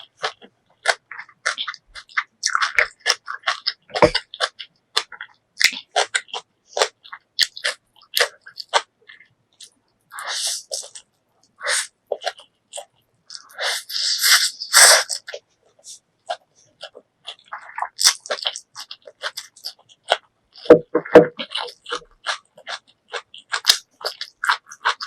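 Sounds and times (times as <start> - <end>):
wet chewing with crunching: 0.0 - 25.0.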